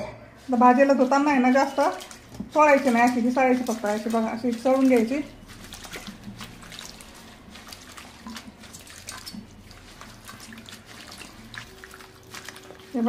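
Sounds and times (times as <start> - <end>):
water splashing and dripping: 0.7 - 13.0.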